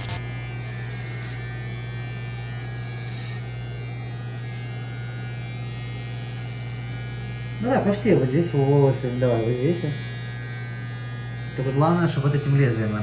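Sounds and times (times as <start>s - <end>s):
electric hair clipper running: 0.0s - 13.0s.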